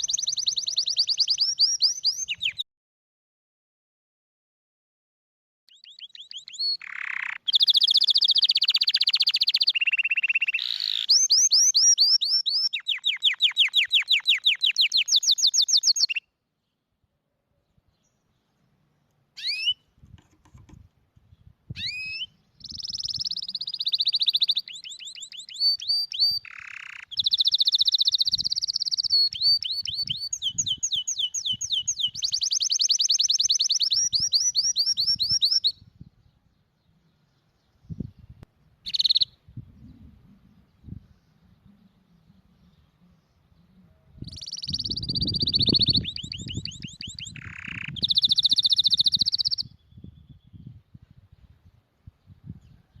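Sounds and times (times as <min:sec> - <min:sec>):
canary singing trills: 0:00.0 - 0:02.6, 0:05.7 - 0:16.3, 0:19.4 - 0:19.9, 0:21.4 - 0:50.8.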